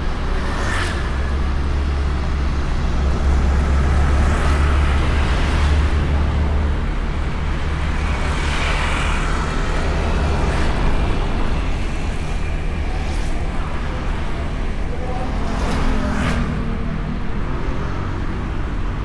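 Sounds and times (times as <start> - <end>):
scooter engine and tyre noise: 0.0 - 19.0
traffic noise: 0.0 - 19.0.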